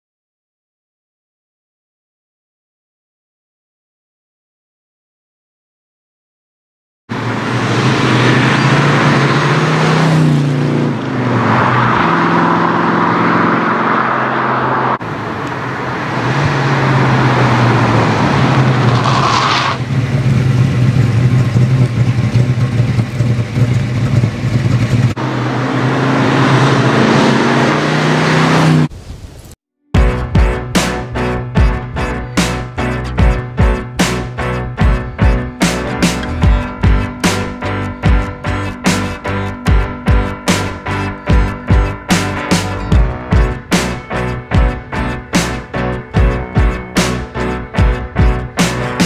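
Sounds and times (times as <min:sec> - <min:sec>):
car engine running: 0:07.1 - 0:28.9, 0:30.0 - 0:49.0.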